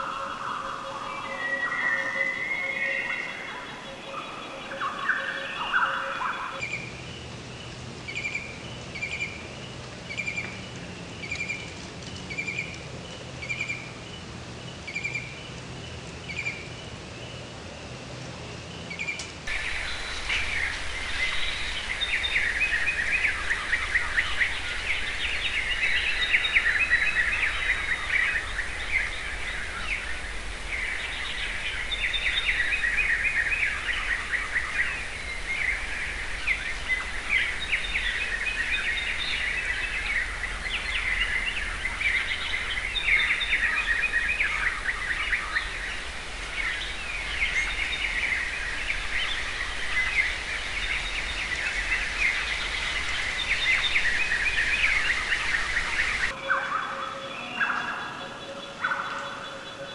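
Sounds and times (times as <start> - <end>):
chorus of birds singing: 0.0 - 59.9.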